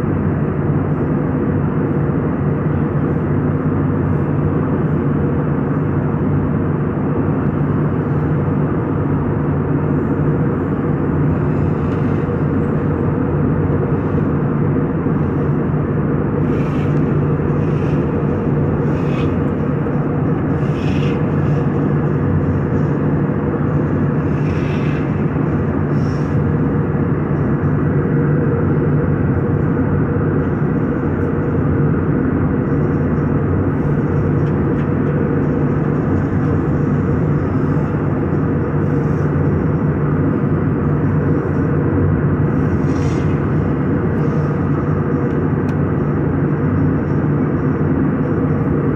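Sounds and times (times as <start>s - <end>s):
vehicle engine and airflow drone: 0.0s - 48.9s.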